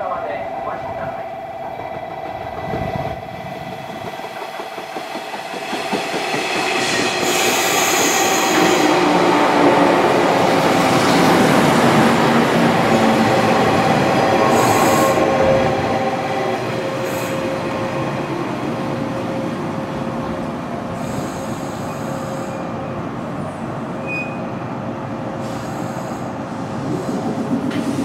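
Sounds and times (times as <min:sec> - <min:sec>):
electric train wheels on rail: 0:00.0 - 0:28.0.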